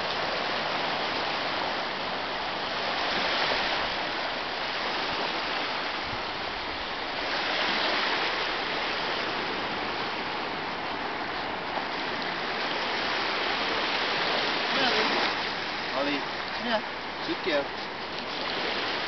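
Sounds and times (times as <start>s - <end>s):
waves washing on beach: 0.0s - 19.0s.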